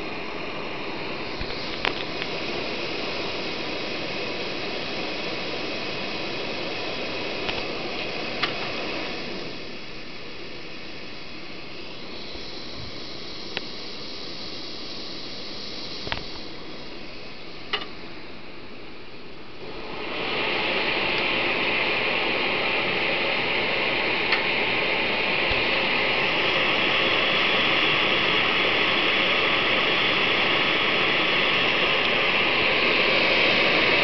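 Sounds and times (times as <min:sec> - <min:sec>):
pressure stove hissing: 0:00.0 - 0:34.0.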